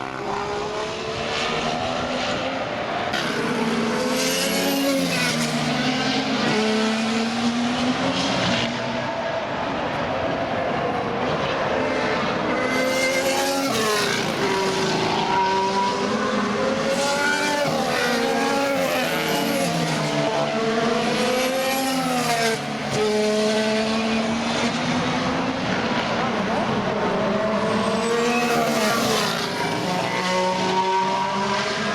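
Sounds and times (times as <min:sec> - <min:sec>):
racing car engines: 0:00.0 - 0:31.9.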